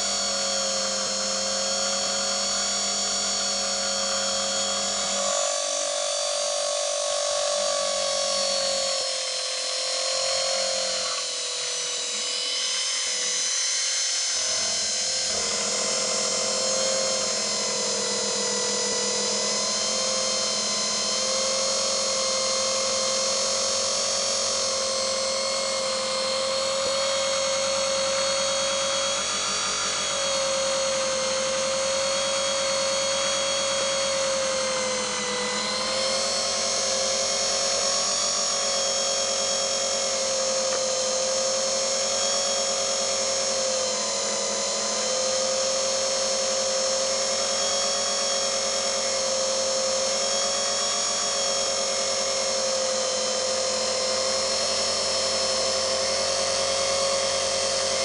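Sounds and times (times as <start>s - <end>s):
small motor high whine: 0.0s - 58.0s.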